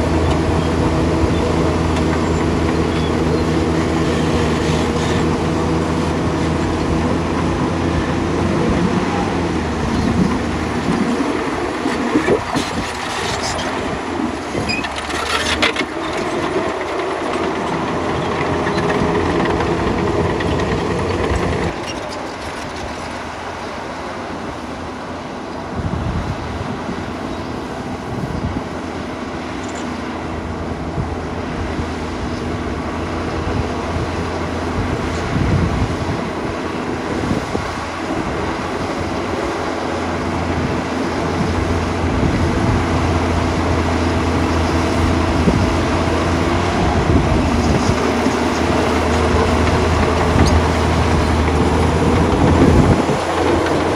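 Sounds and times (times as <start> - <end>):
track clatter: 0.0 - 24.3, 28.8 - 53.9
bulldozer diesel engine working: 0.0 - 53.9.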